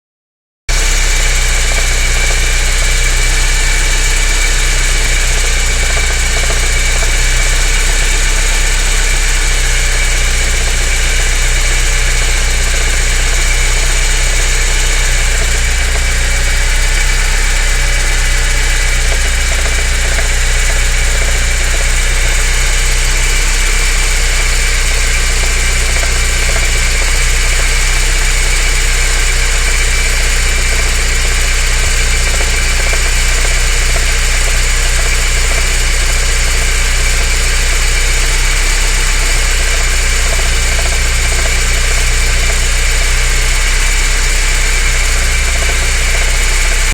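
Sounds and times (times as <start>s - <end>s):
car engine idling: 0.7s - 46.9s.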